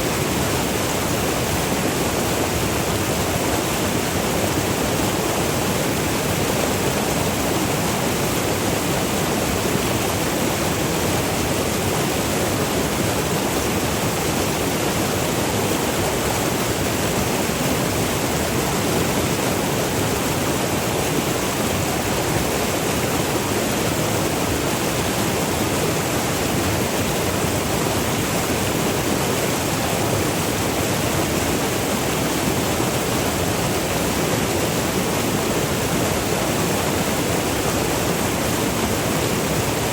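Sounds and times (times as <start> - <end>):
river water rushing over falls: 0.0 - 39.9.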